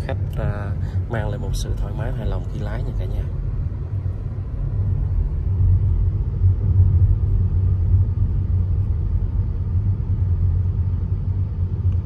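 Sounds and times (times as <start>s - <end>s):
car cabin road and engine drone: 0.0s - 12.0s.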